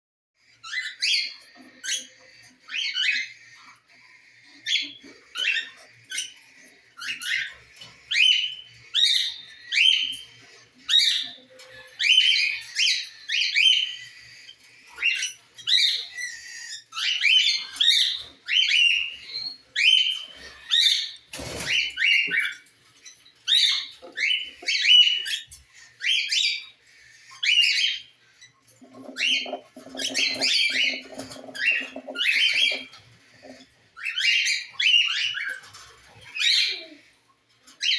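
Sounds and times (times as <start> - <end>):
cockatiels chirping: 0.4 - 37.9.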